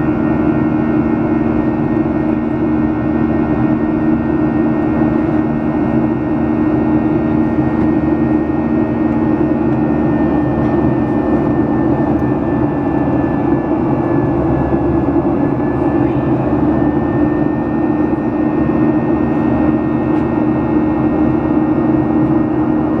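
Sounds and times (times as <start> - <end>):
jet engine roar inside cabin: 0.0 - 23.0.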